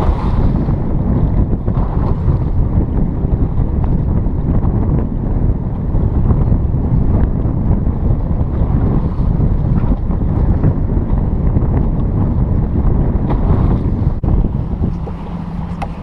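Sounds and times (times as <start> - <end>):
boat engine rumble: 0.0 - 16.0
wind buffeting microphone: 0.0 - 16.0.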